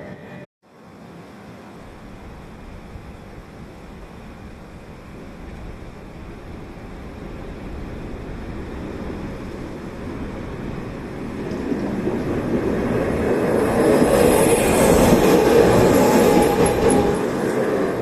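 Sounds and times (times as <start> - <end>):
tram running: 0.0 - 18.0.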